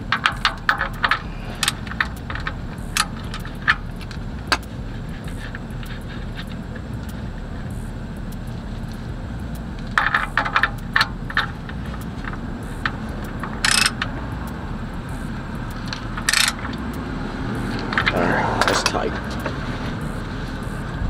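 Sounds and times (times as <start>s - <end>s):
low background rumble: 0.0s - 21.0s
socket ratchet clicking: 0.1s - 18.2s.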